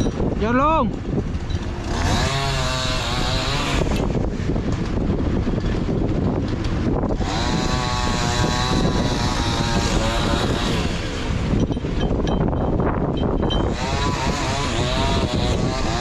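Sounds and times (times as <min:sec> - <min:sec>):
chainsaw cutting wood: 0:01.2 - 0:16.0.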